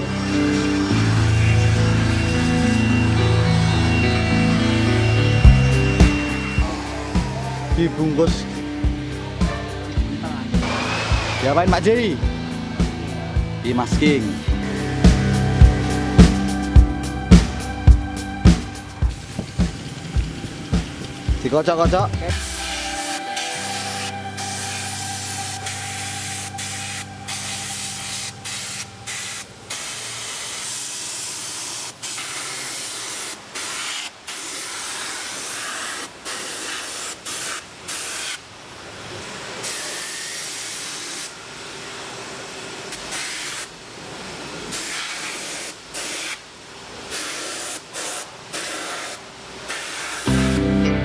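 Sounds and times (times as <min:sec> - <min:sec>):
spray gun hissing: 0:00.0 - 0:03.6, 0:04.5 - 0:12.6, 0:14.2 - 0:38.5, 0:39.5 - 0:41.6, 0:42.9 - 0:43.7, 0:44.6 - 0:50.6.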